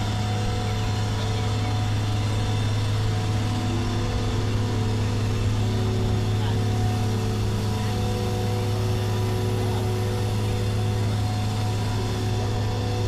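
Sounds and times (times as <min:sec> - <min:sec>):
machine humming with higher tones: 0:00.0 - 0:13.0.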